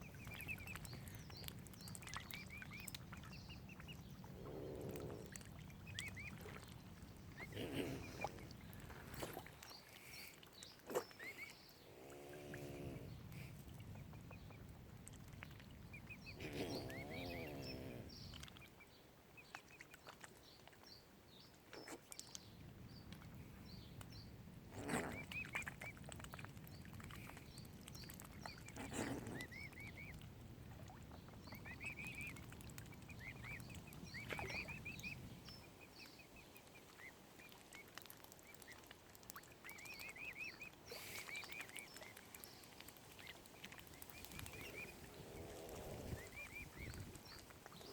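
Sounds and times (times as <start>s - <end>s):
cygnets peeping: 0.0s - 9.9s, 10.6s - 13.4s, 15.4s - 18.7s, 23.0s - 38.8s, 39.4s - 47.9s.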